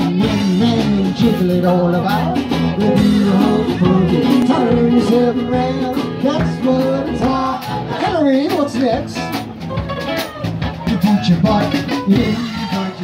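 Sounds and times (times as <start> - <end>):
person singing: 0.0 - 9.4, 10.8 - 13.0
guitar: 0.0 - 13.0
live band playing upbeat song: 0.0 - 13.0.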